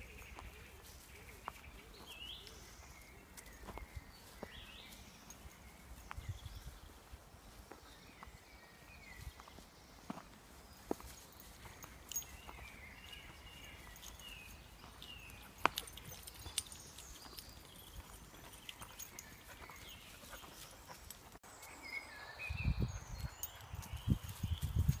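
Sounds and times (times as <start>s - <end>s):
distant birds singing: 0.0s - 24.9s.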